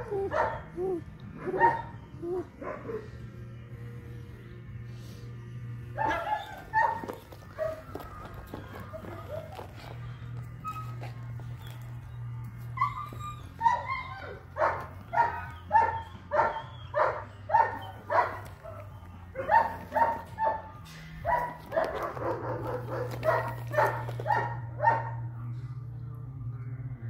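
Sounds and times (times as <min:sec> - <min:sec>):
puppy yapping: 0:00.0 - 0:03.1, 0:06.0 - 0:11.9, 0:12.7 - 0:25.3
low hum: 0:00.0 - 0:27.0.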